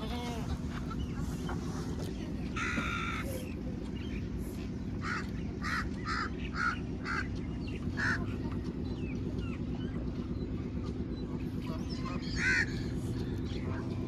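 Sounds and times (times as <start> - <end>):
low background rumble: 0.0 - 14.0
small birds chirping: 0.5 - 14.0.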